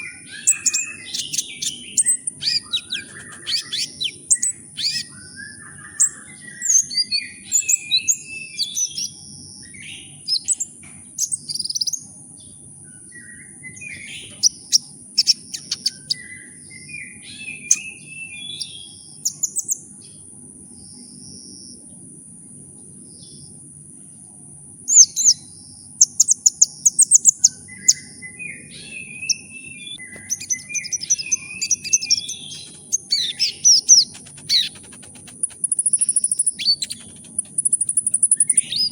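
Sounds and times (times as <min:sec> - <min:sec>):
bird twittering trills and chirps: 0:00.0 - 0:12.5, 0:13.1 - 0:19.8, 0:24.9 - 0:38.9.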